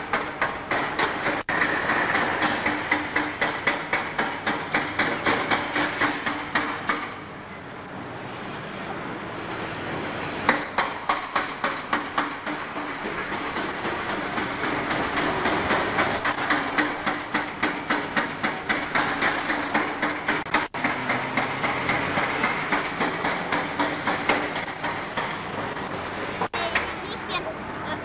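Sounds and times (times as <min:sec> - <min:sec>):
trolleybus driving past: 0:00.0 - 0:28.0.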